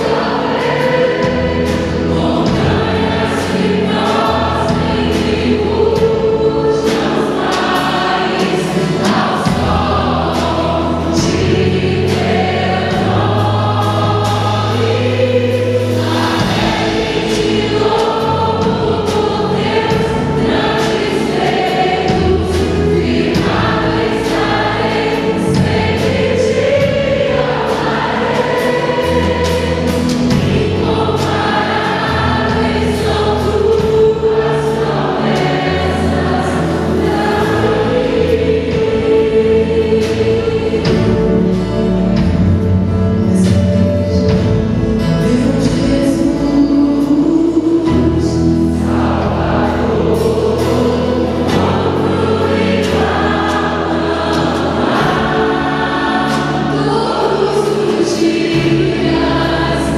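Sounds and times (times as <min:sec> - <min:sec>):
women singing worship song: 0:00.0 - 0:41.7, 0:43.3 - 0:59.9
live band with bass line: 0:00.0 - 0:59.9.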